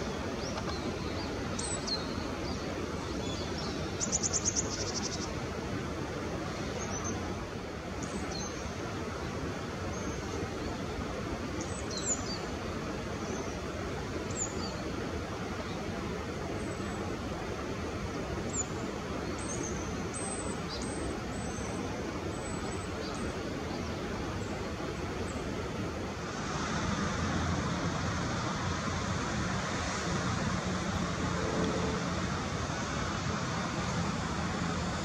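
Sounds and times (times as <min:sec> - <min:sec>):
outdoor background noise: 0:00.0 - 0:35.0.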